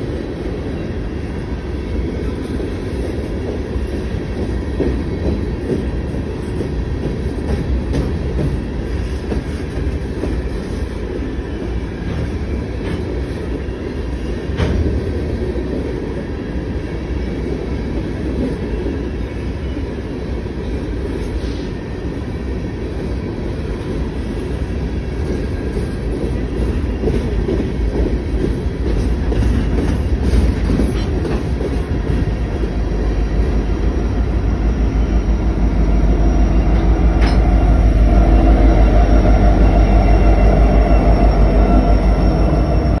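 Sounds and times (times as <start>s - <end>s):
diesel locomotive engine hum: 0.0s - 43.0s
train wheels rumbling on rail: 0.0s - 43.0s.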